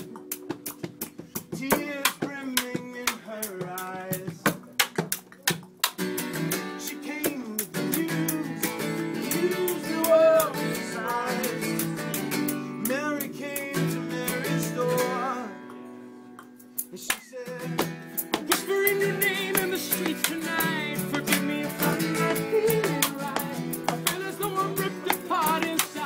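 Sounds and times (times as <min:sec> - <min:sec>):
music with singing voice: 0:00.0 - 0:05.6, 0:06.5 - 0:26.0.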